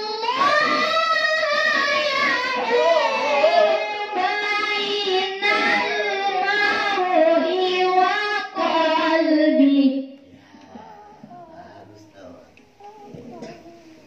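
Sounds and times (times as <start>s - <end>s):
girl chanting melodic recitation: 0.0s - 12.0s, 12.8s - 14.0s.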